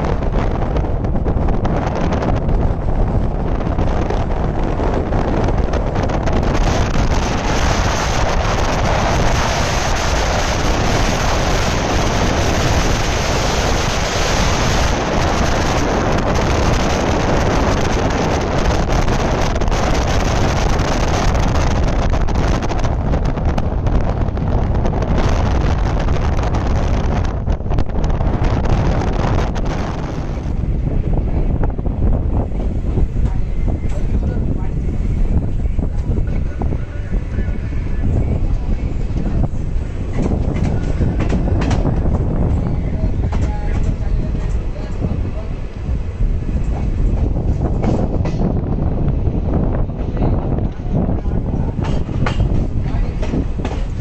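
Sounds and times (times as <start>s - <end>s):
moving passenger train: 0.0s - 54.0s
wind buffeting microphone: 0.0s - 54.0s.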